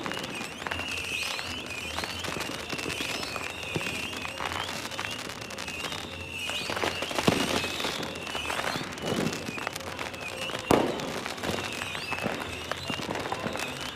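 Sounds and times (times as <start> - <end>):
fireworks crackling and banging: 0.0 - 13.9.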